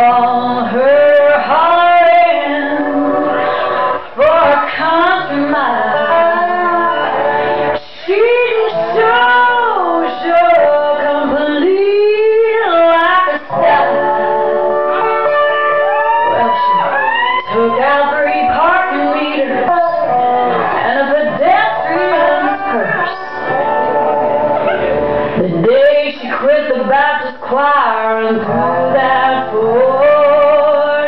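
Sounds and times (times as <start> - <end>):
woman singing: 0.0 - 31.0.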